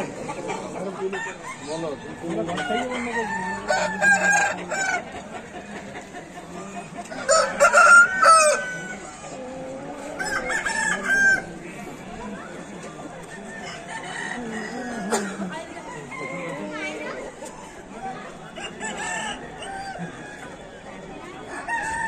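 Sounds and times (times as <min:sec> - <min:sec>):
roosters crowing: 0:00.0 - 0:12.1, 0:13.1 - 0:17.7, 0:18.4 - 0:22.0
rooster clucking: 0:00.0 - 0:22.0.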